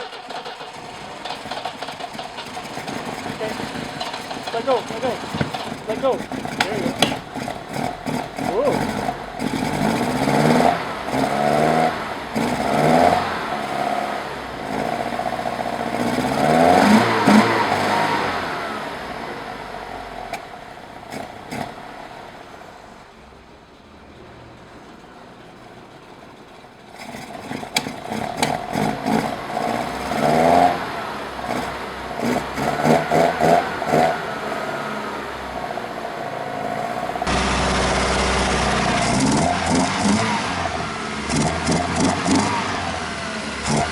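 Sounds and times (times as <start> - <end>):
car engine revving and idling: 0.0 - 43.9.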